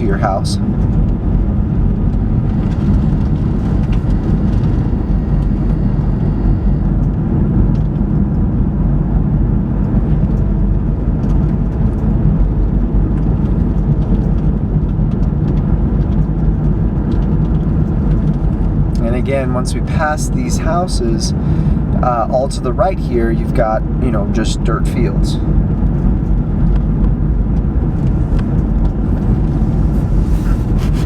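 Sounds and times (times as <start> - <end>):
low drive hum: 0.0 - 31.0
road and tyre noise: 0.0 - 31.0.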